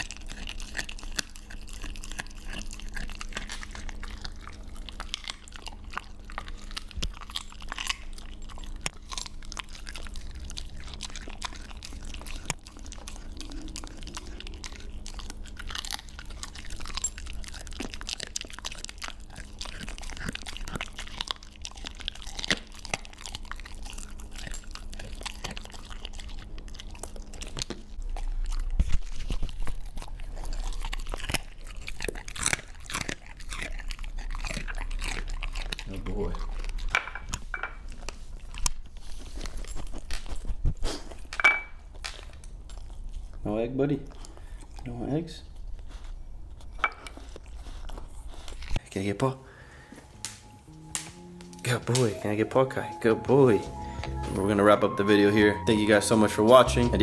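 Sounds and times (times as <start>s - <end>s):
dog chewing and crunching: 0.0s - 57.0s.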